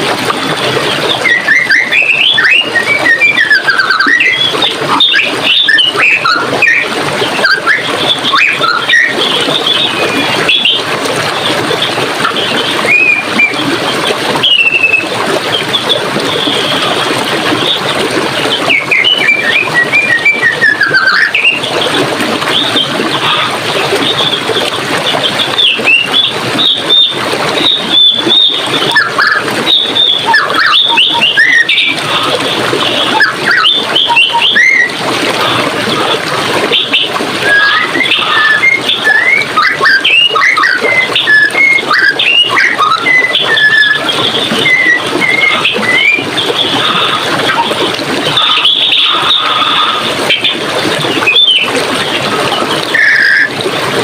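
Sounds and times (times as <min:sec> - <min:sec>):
running water rushing: 0:00.0 - 0:54.0
birds singing and chirping: 0:00.8 - 0:53.6.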